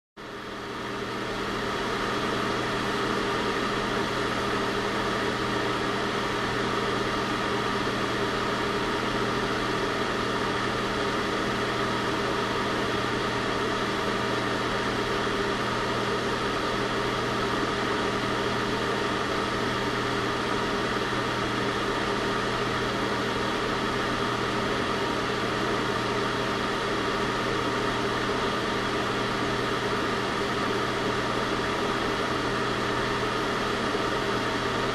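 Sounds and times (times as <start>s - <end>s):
heater hum and hiss: 0.3s - 34.9s.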